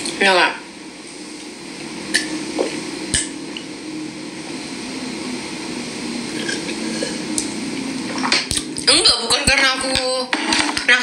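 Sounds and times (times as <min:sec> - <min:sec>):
low hum of cooking: 0:00.0 - 0:11.0.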